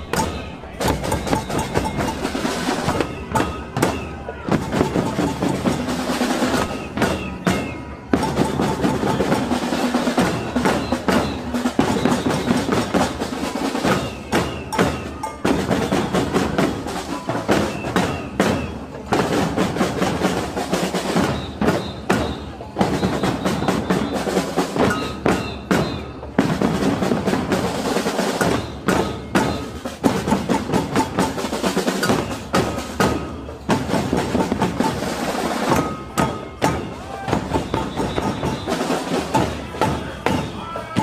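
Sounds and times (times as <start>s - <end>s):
marching drummers: 0.0s - 41.0s.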